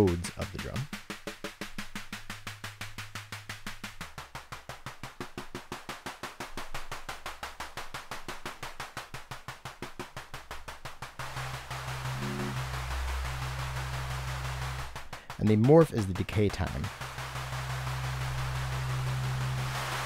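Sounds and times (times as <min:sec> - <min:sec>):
rapid synthesized snare hits: 0:00.0 - 0:20.0.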